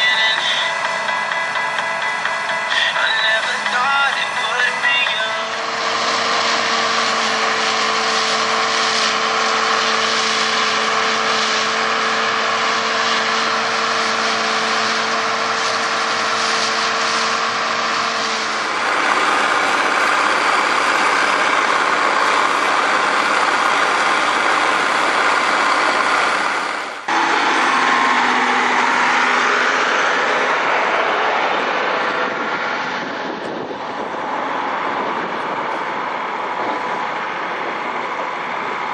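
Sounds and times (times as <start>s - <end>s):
heavy farm machine engines: 0.0s - 38.9s.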